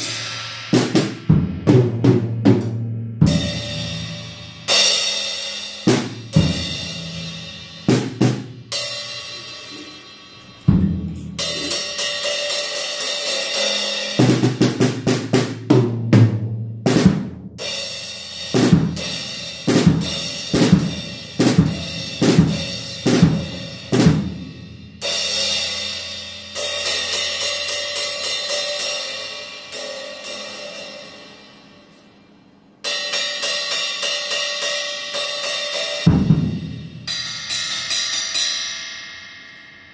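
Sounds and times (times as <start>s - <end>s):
steady cymbal beat: 0.0s - 39.9s
cymbal crashes ringing: 3.2s - 14.6s, 17.6s - 39.9s.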